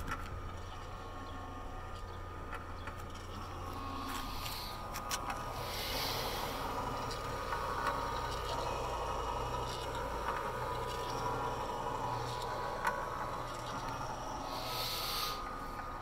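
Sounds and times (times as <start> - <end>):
electric motor humming: 0.0 - 16.0.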